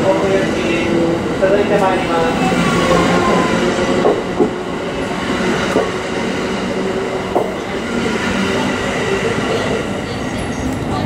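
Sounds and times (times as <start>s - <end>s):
train coaches rumbling past: 0.0s - 11.0s.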